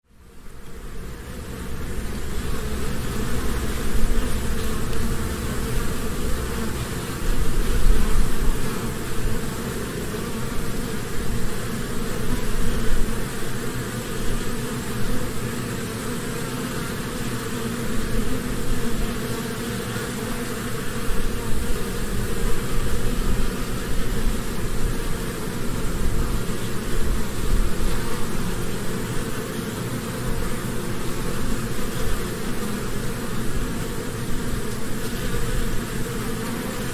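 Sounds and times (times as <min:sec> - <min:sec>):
honeybees buzzing at a hive: 0:00.1 - 0:36.9.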